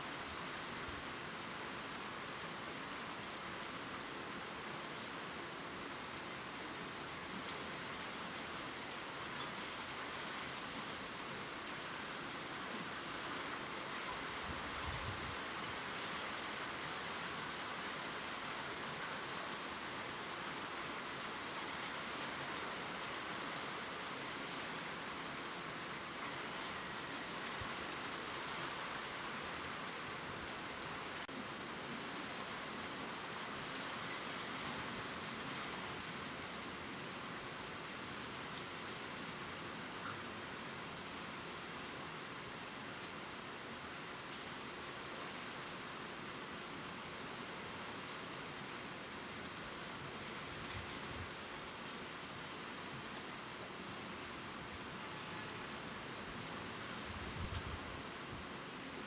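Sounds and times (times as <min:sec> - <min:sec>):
rain pattering on leaves: 0:00.0 - 0:59.0.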